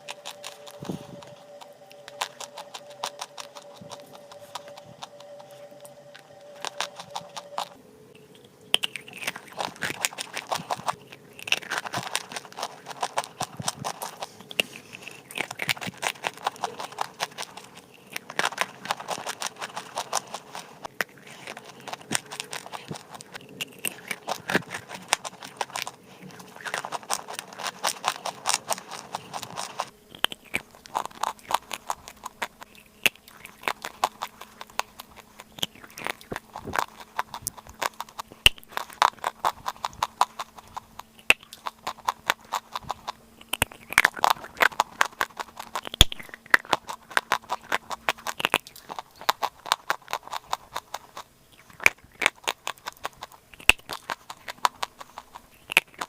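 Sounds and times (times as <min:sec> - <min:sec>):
chalk crunching being chewed: 0:00.0 - 0:56.0.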